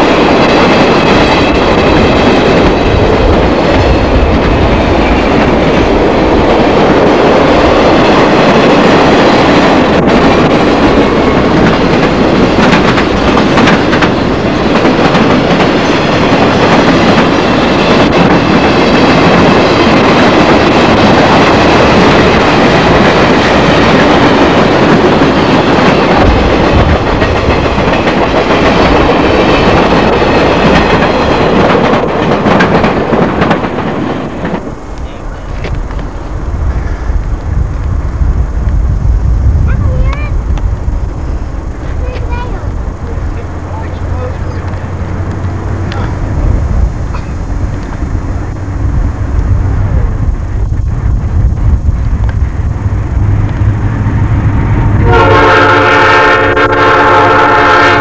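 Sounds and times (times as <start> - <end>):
train rumbling over track: 0.0 - 58.0.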